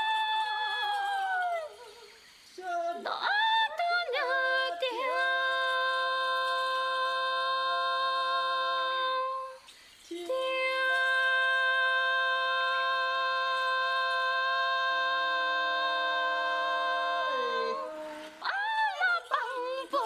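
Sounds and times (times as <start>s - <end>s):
voices singing held notes: 0.0s - 20.0s.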